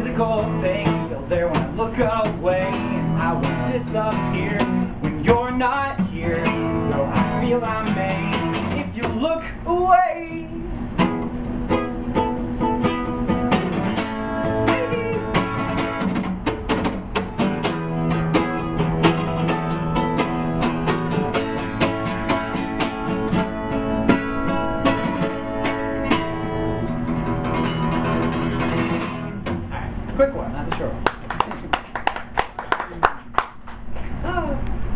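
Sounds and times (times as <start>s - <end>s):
acoustic guitar strumming: 0.0s - 30.4s.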